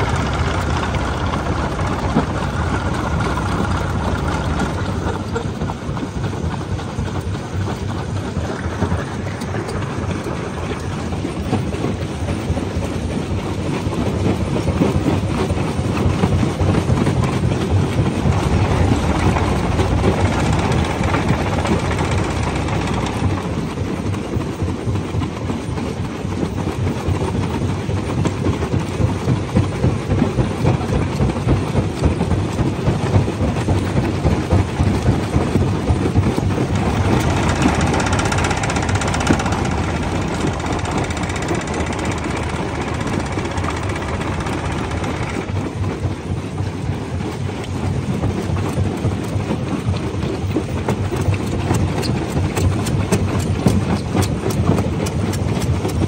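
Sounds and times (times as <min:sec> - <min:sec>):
rock crusher rumbling: 0:00.0 - 0:26.1, 0:30.0 - 0:49.4.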